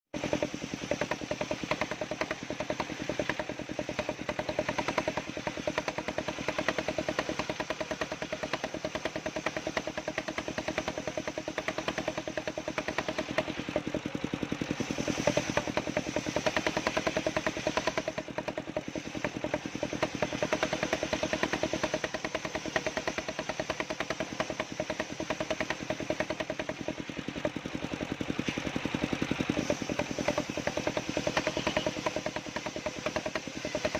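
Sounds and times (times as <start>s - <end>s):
sawmill engine running: 0.1s - 33.9s.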